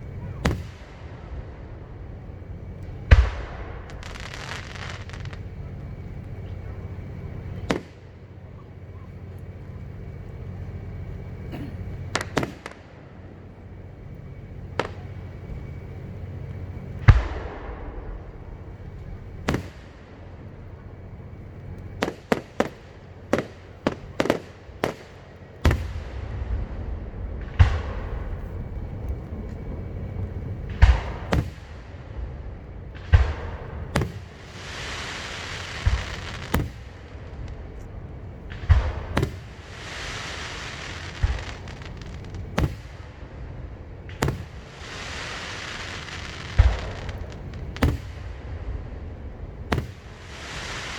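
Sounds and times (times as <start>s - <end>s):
fireworks bangs: 0.0s - 50.9s
fireworks hissing: 0.0s - 50.9s
rolling rumble: 0.0s - 50.9s.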